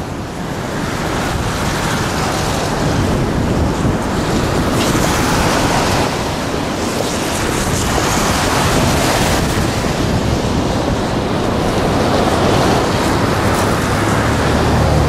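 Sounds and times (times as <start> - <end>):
waterfall roaring: 0.0 - 15.0
wind buffeting microphone: 0.0 - 15.0.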